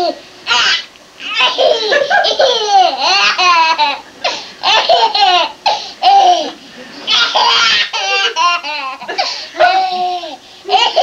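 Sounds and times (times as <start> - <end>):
baby laughing: 0.0 - 11.0.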